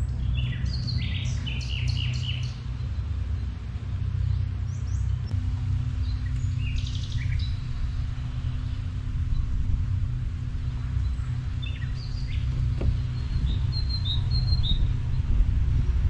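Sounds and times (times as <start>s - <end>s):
birds chirping: 0.0s - 16.0s
faint steady hum: 0.0s - 16.0s
steady low rumble: 0.0s - 16.0s.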